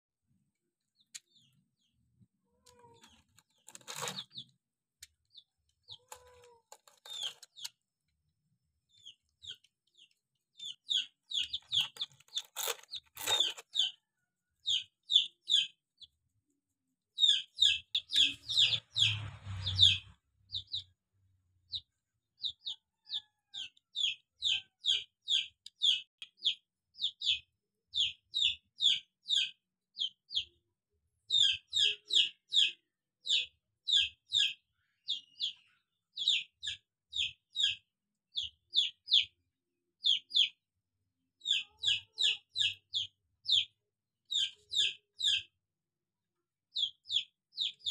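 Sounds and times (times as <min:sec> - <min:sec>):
chick peeping: 0:00.9 - 0:04.6, 0:05.2 - 0:07.8, 0:08.9 - 0:16.1, 0:17.2 - 0:20.9, 0:21.7 - 0:30.6, 0:31.3 - 0:39.3, 0:40.0 - 0:40.6, 0:41.4 - 0:45.5, 0:46.7 - 0:47.9.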